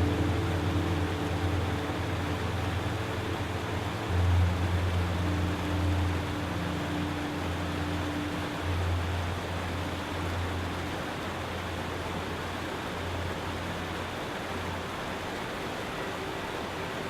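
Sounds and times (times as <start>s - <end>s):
low hum: 0.0s - 16.5s
rushing noise: 0.0s - 17.0s.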